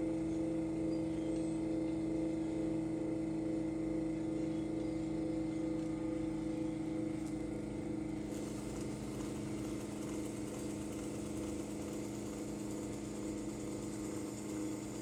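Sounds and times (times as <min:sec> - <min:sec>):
potter's wheel motor humming: 0:00.0 - 0:15.0.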